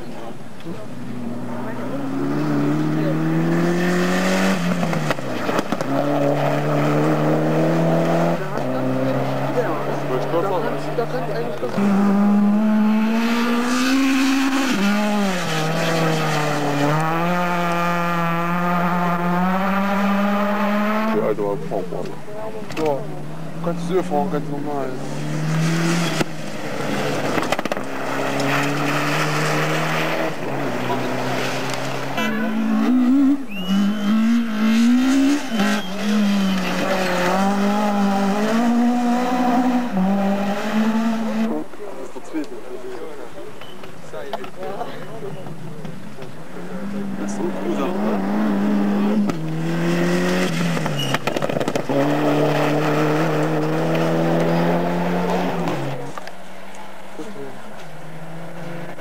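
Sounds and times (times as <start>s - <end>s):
rally car engine revving: 0.0s - 43.4s, 45.2s - 56.3s, 57.0s - 59.0s.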